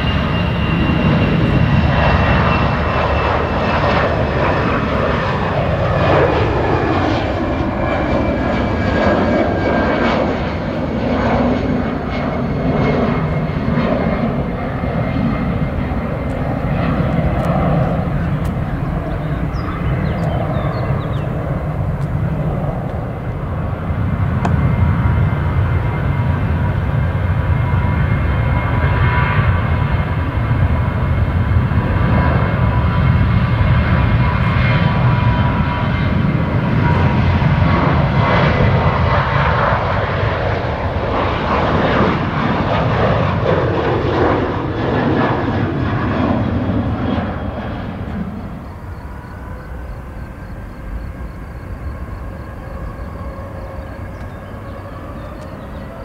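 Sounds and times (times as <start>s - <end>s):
jet engines rumbling and whining: 0.0s - 56.0s.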